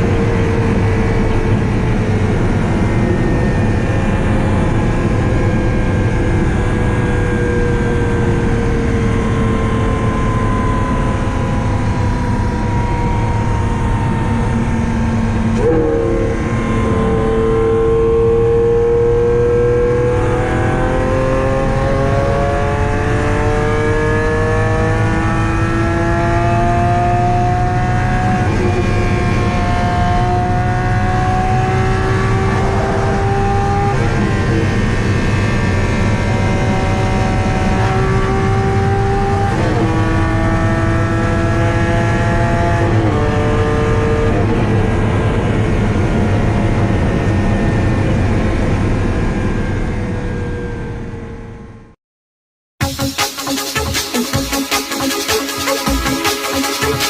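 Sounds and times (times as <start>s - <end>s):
sports car engine revving: 0.0s - 48.4s.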